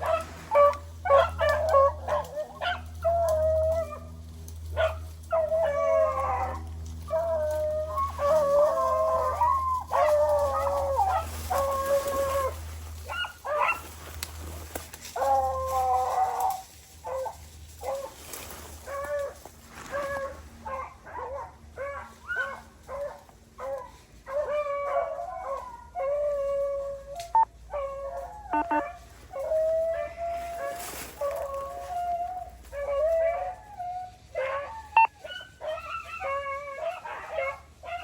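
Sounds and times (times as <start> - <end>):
hounds baying: 0.0 - 38.0.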